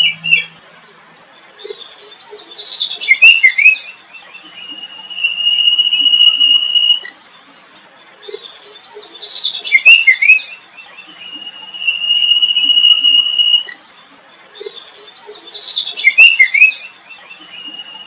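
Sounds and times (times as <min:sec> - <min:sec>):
songbird whistling and chirping: 0:00.0 - 0:18.0.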